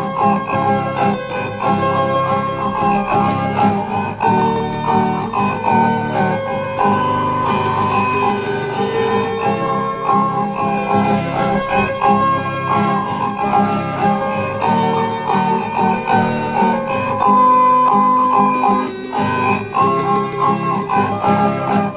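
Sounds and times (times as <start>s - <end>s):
jingling percussion beat: 0.0s - 21.9s
plucked string instruments: 0.0s - 21.9s.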